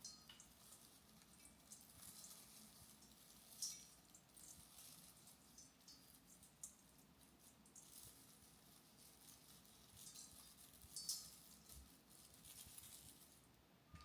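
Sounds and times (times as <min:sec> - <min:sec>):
faint light clicks and rustles: 0:00.0 - 0:14.0.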